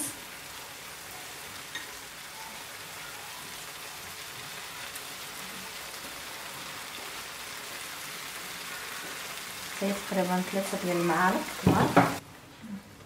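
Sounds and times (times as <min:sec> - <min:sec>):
sauce sizzling in a frying pan: 0:00.0 - 0:12.2.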